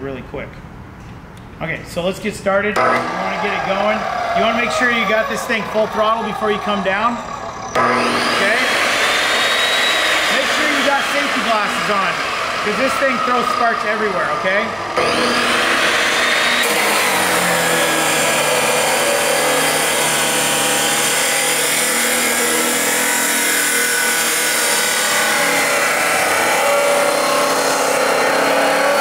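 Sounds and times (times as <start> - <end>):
abrasive wheel grinding steel: 2.8 - 29.0
chop saw motor hum: 2.8 - 29.0.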